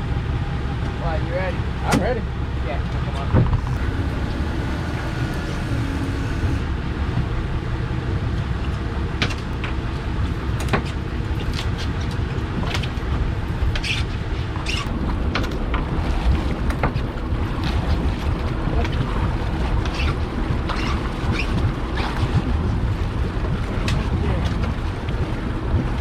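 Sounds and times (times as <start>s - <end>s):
boat motor rumble: 0.0s - 26.0s
wind: 0.0s - 26.0s.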